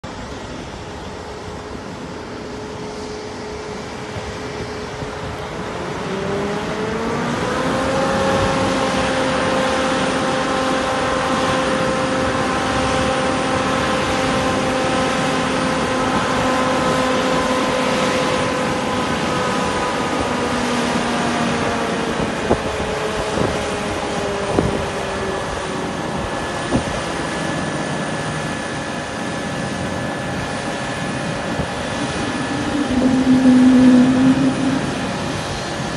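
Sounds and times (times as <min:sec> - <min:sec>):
fire truck engine and pump revving: 0:00.0 - 0:35.9
jet airliner taxiing: 0:00.0 - 0:35.9.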